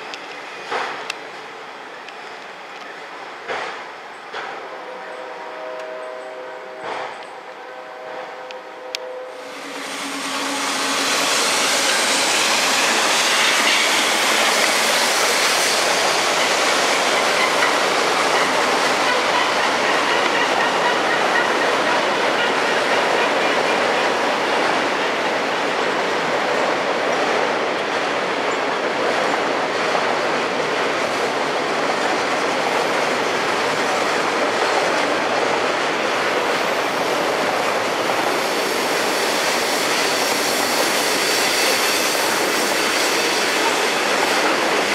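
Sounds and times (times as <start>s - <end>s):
train wheels clattering on rails: 0.0s - 1.4s, 2.1s - 4.8s, 6.8s - 7.4s, 9.5s - 44.9s.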